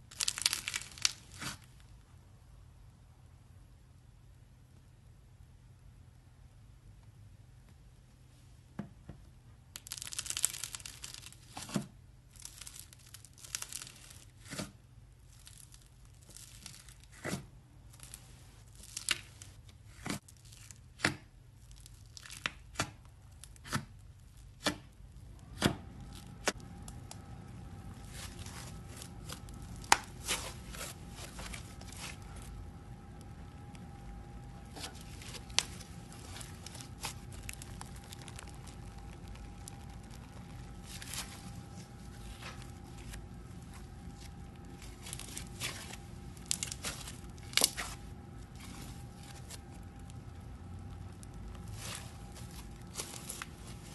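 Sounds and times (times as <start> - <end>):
crackly crinkling: 0.0 - 2.1, 9.7 - 53.9
steady low hum: 0.0 - 53.9.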